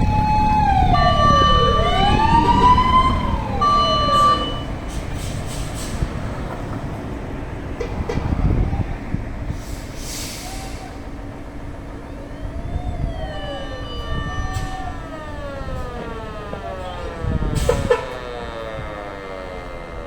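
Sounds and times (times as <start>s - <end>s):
fire engine siren wailing: 0.0s - 6.8s, 8.2s - 9.3s, 10.1s - 20.0s
heavy vehicle rumble: 0.0s - 20.0s.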